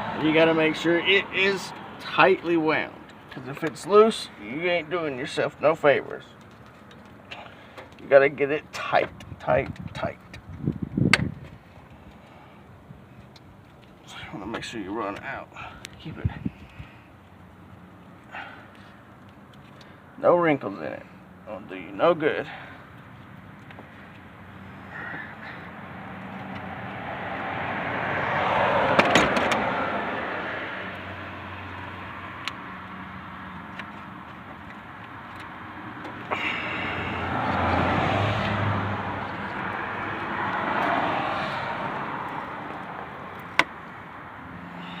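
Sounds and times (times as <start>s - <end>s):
cars passing: 0.0s - 45.0s.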